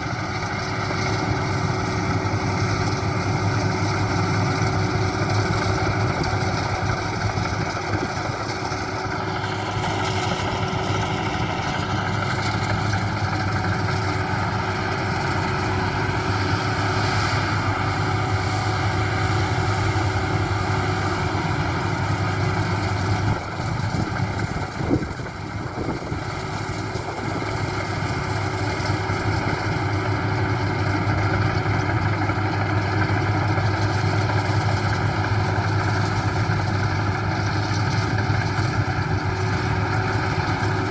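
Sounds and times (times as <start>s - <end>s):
combine harvester humming: 0.0s - 40.9s.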